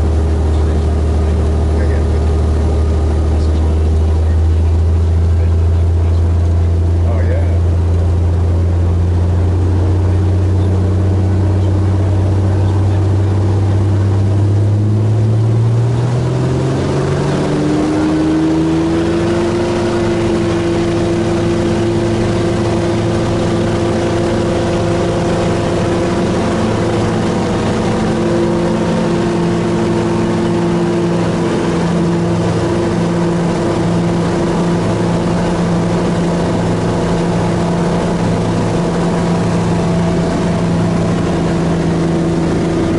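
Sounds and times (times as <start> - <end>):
aircraft engine and propeller: 0.0 - 42.9.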